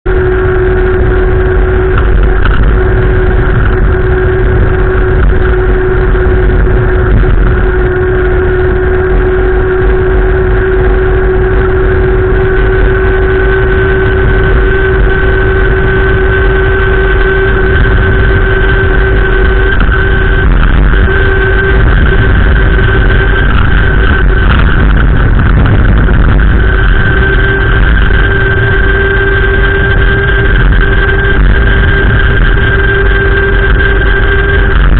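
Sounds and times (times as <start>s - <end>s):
wind rumbling on microphone: 0.0s - 34.9s
steady two-pitch hum: 0.1s - 34.9s.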